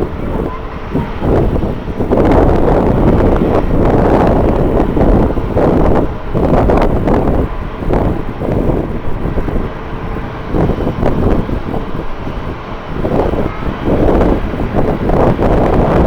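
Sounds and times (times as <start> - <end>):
distant jet engine whine: 0.0 - 16.0
wind buffeting microphone: 0.0 - 16.0.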